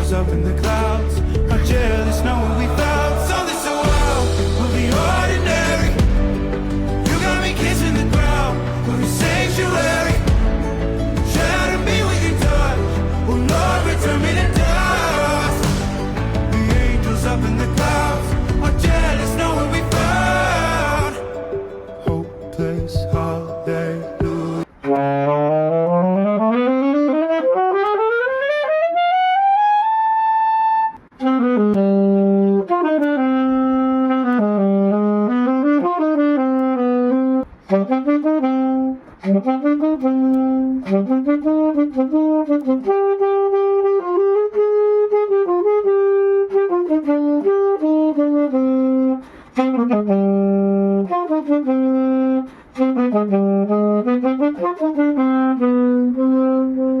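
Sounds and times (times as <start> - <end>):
alto saxophone melody: 1.2 - 22.9, 24.1 - 57.0.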